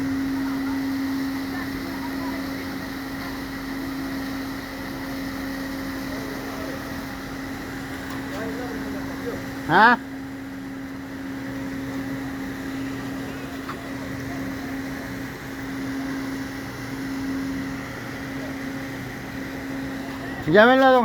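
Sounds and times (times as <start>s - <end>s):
boat machinery humming: 0.0s - 21.0s.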